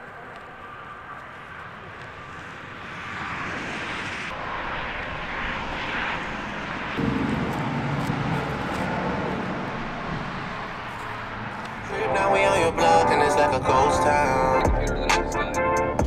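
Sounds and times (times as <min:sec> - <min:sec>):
engine rushing drone: 0:00.0 - 0:16.0.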